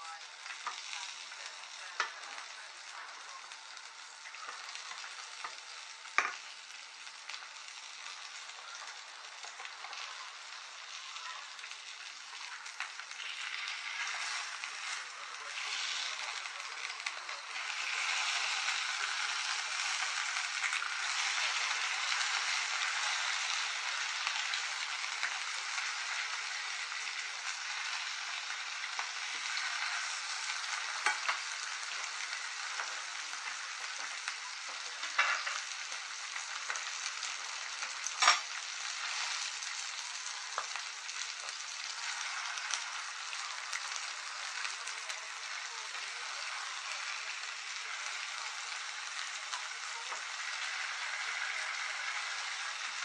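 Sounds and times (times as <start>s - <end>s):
fish sizzling in a frying pan: 0.0s - 53.0s.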